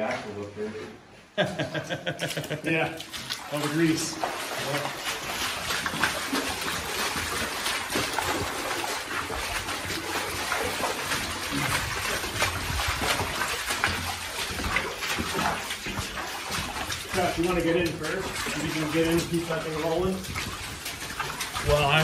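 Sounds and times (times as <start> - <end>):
boots splashing through water: 1.5 - 22.0.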